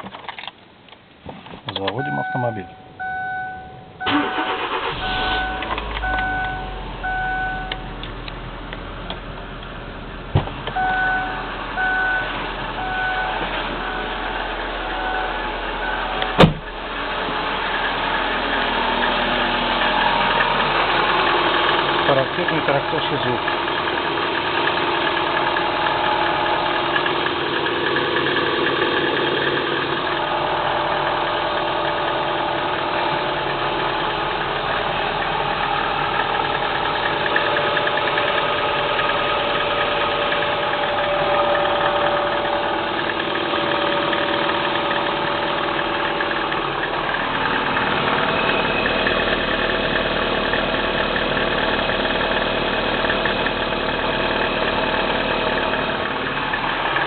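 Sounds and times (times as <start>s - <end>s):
car engine idling with knock: 4.9s - 57.0s.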